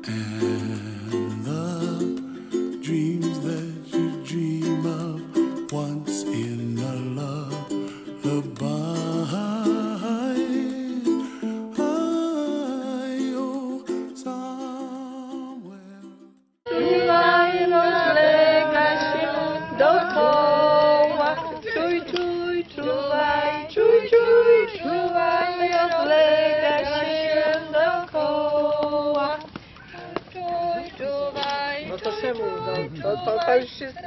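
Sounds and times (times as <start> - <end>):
group of people singing: 0.0 - 11.0, 16.7 - 34.0
ukulele music: 0.0 - 33.5.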